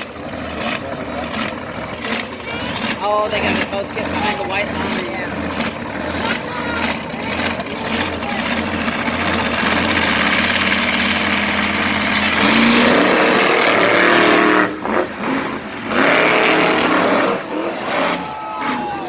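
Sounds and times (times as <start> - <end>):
monster truck engines racing: 0.0 - 19.0.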